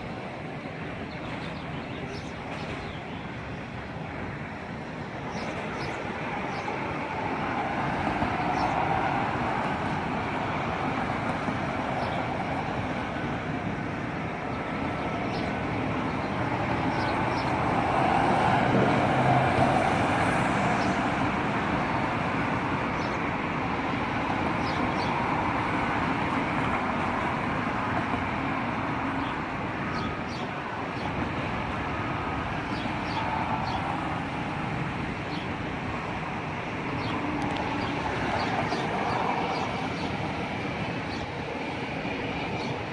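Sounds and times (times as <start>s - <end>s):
traffic noise: 0.0s - 42.9s.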